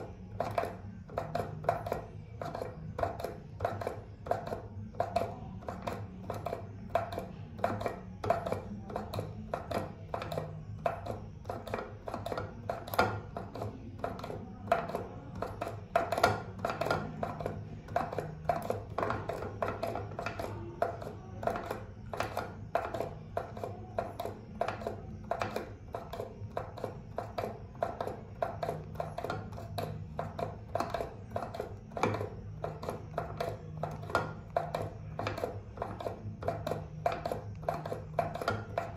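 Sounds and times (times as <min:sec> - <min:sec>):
soap dispenser pump clicking: 0:00.0 - 0:38.9.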